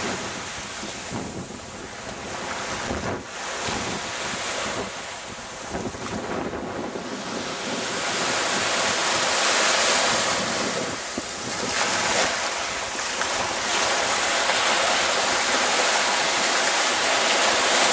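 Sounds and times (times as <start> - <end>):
small waves breaking on beach: 0.0 - 17.9
wind on microphone: 0.0 - 17.9.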